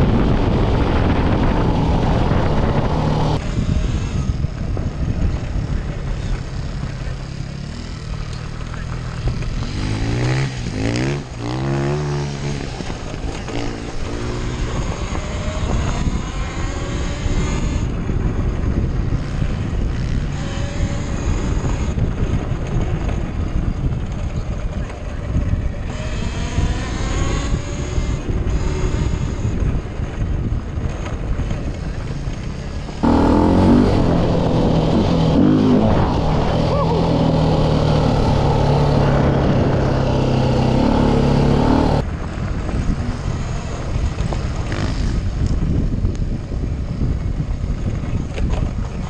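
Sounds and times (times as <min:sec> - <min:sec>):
motorcycle engine revving: 0:00.0 - 0:04.5, 0:05.1 - 0:23.2, 0:24.5 - 0:30.0, 0:30.9 - 0:45.8.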